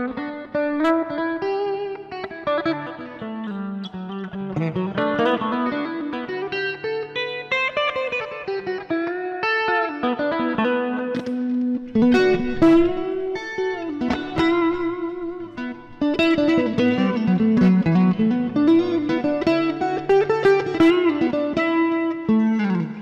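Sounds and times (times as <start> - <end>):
solo electric guitar: 0.0 - 23.0.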